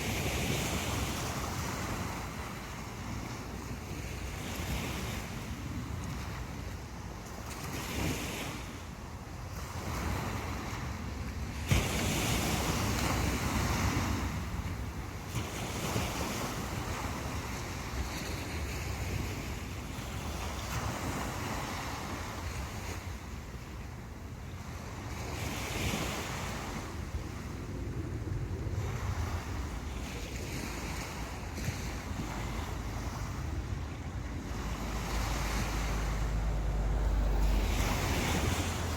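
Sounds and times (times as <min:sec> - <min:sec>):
sea waves washing up beach: 0:00.0 - 0:38.9
wind buffeting microphone: 0:00.0 - 0:38.9.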